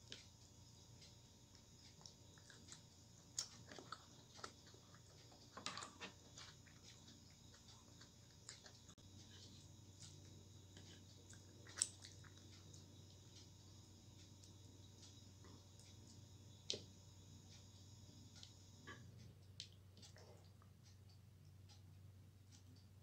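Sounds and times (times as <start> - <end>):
quiet chewing: 0.0 - 23.0.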